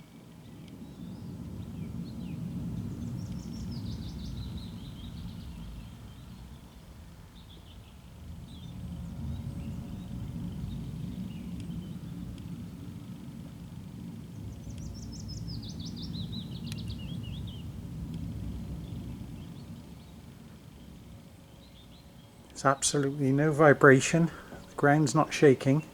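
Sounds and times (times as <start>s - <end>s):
birds chirping: 0.8s - 12.2s, 14.4s - 17.7s, 18.8s - 25.9s.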